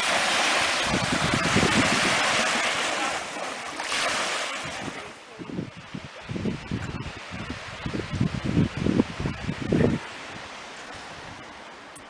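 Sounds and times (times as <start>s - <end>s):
wind buffeting microphone: 0.0s - 11.7s
waves washing onto shore: 0.0s - 12.0s.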